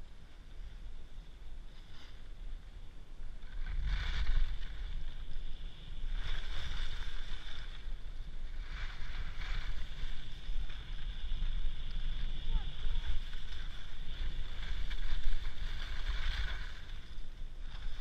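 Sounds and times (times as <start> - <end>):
wind buffeting microphone: 0.0 - 18.0
ski edges scraping packed snow: 1.7 - 2.6, 3.5 - 18.0.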